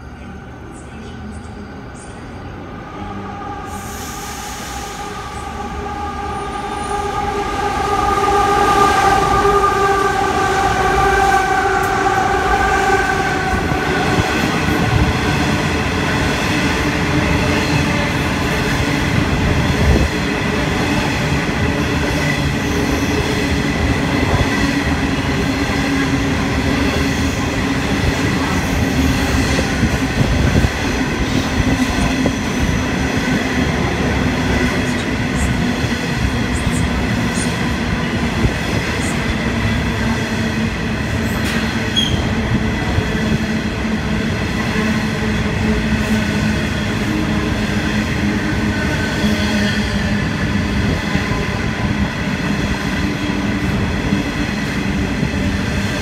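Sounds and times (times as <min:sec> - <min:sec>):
diesel locomotives passing: 0:00.0 - 0:56.0.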